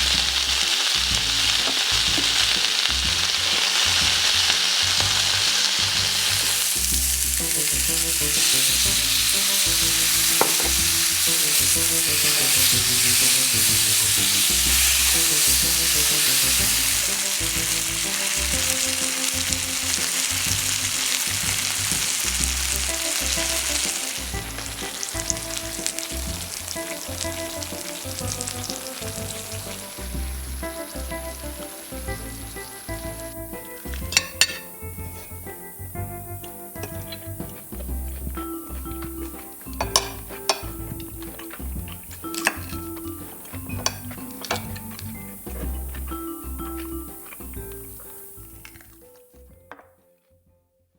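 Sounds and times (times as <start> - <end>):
meat sizzling in oil: 0.0 - 49.0.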